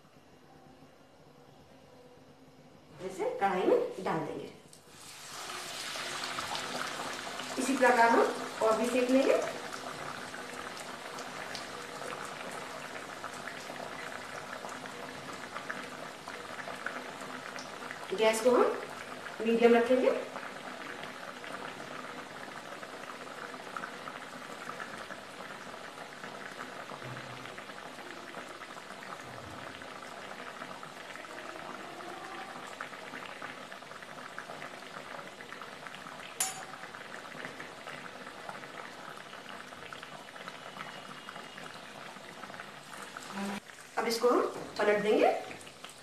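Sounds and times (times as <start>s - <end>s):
hot oil sizzling and bubbling: 3.5s - 46.0s.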